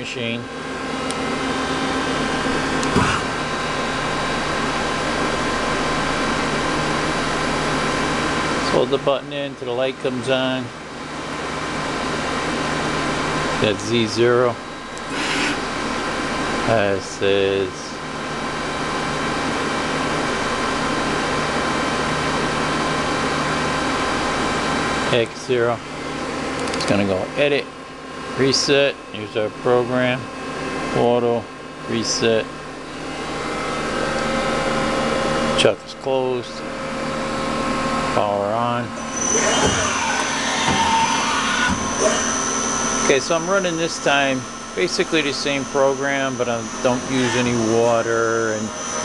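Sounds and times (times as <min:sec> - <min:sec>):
lathe humming and whining: 0:00.0 - 0:49.0.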